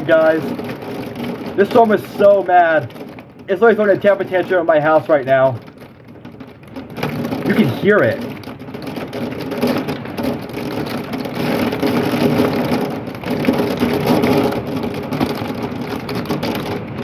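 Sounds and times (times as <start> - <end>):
heavy rain and hail pelting: 0.0 - 17.0.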